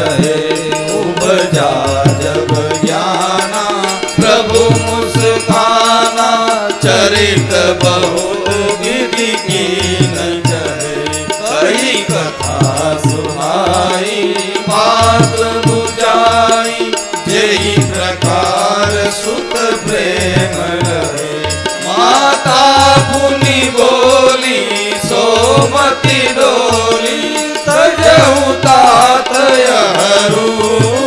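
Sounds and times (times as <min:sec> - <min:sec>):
man singing hymn: 0:00.0 - 0:31.0.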